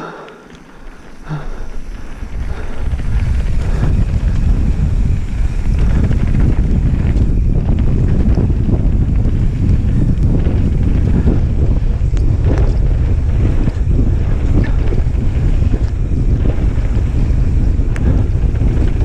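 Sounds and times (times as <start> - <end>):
tyres rumbling on gravel trail: 0.2 - 19.0
wind buffeting microphone: 0.9 - 19.0
bike rattles and knocks: 1.9 - 19.0.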